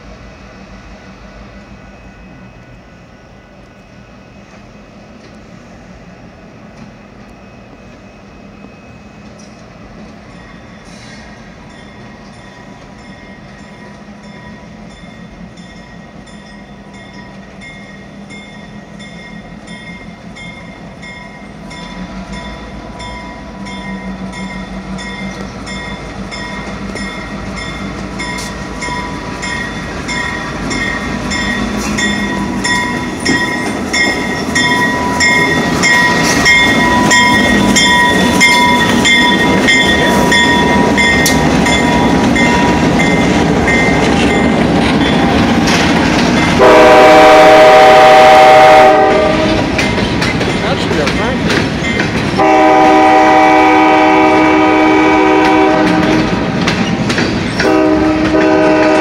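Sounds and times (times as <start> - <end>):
diesel locomotives passing: 0.0 - 59.0
locomotive bell ringing: 7.0 - 56.1.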